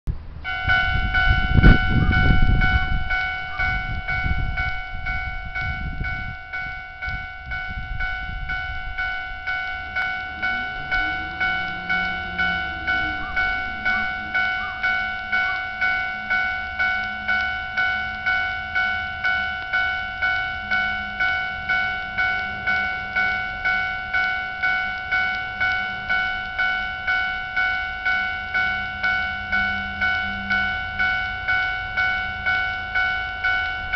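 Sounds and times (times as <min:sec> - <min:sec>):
train rumbling past: 0:00.1 - 0:33.9
level crossing bell ringing: 0:00.4 - 0:33.9.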